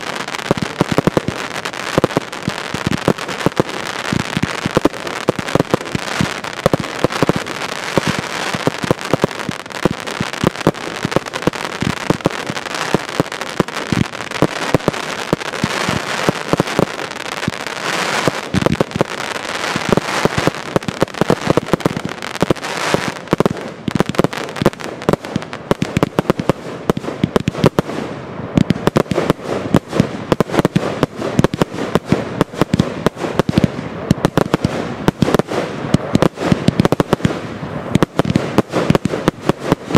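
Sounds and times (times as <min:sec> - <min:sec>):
fireworks bursting: 0:00.0 - 0:39.9
fireworks crackle: 0:00.0 - 0:39.9.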